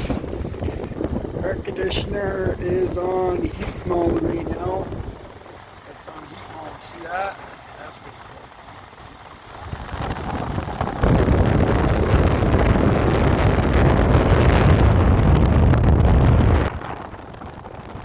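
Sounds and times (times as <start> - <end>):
air blowing on microphone: 0.0 - 18.0.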